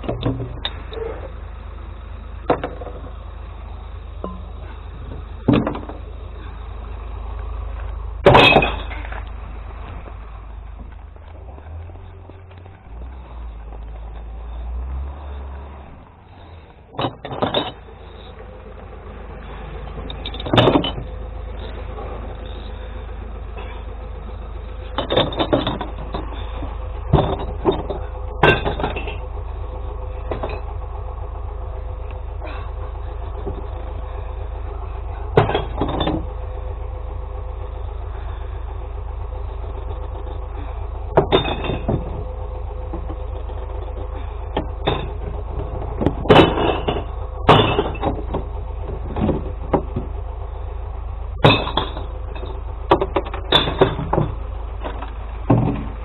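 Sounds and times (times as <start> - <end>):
sharp clanks and knocks: 0.0 - 1.4, 2.4 - 3.3, 4.2 - 6.6, 7.7 - 14.4, 15.5 - 18.8, 19.4 - 31.0, 31.8 - 37.0, 39.7 - 56.0
truck engine rumbling: 0.0 - 56.0.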